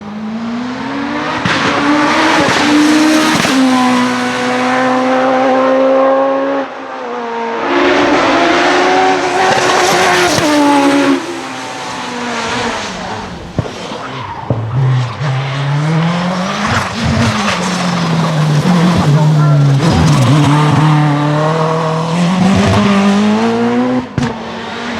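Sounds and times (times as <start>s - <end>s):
racing car engines accelerating: 0.0s - 24.9s.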